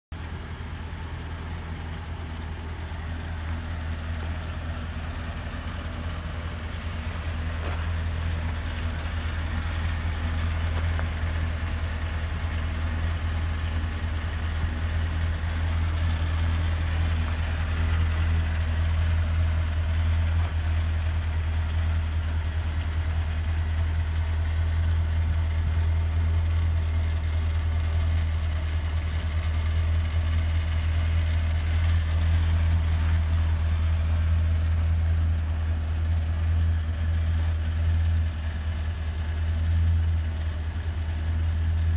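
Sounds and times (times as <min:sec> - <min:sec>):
truck engine idling: 0:00.1 - 0:41.9.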